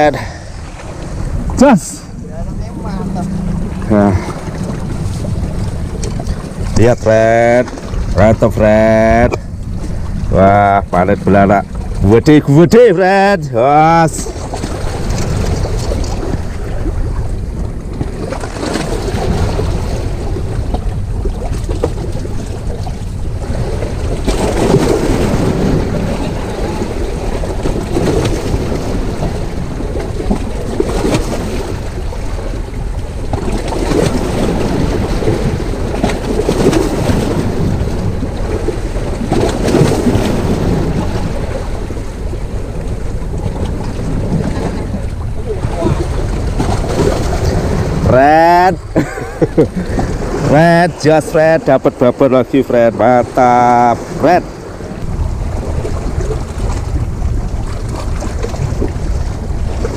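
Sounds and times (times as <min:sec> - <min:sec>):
heavy surf washing against rocks: 0:00.0 - 0:59.9
wind rumbling on microphone: 0:00.0 - 0:59.9.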